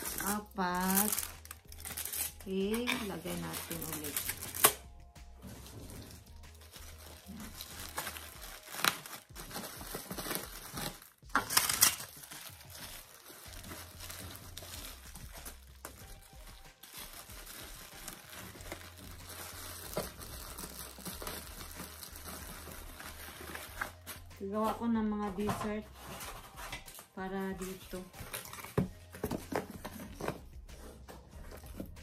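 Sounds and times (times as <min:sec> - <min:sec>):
bubble wrap crinkling and rustling: 0:00.0 - 0:32.0.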